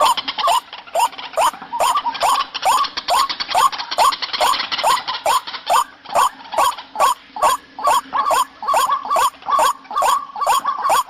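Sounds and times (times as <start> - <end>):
bird calling in rising croaks: 0.0 - 11.0.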